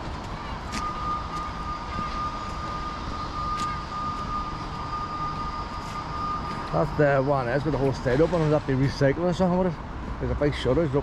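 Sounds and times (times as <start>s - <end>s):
low outdoor rumble: 0.0s - 11.0s
machine high-pitched whine: 0.0s - 11.0s.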